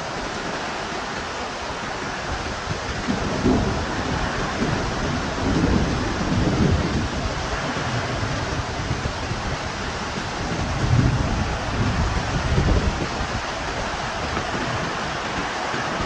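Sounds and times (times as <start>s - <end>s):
gusting wind: 0.0s - 16.0s
heavy rain: 0.0s - 16.0s
wind buffeting microphone: 0.0s - 16.0s.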